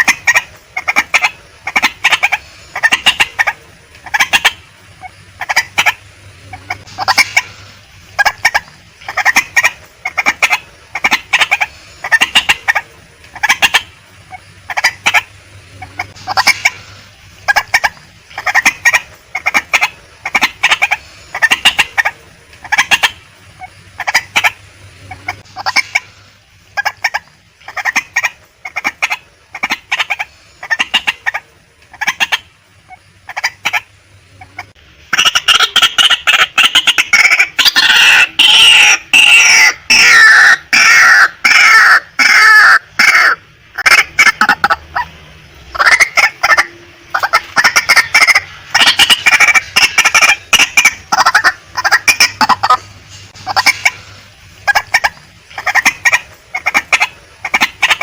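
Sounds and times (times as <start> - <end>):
waterhen clucking calls: 0.0 - 58.0.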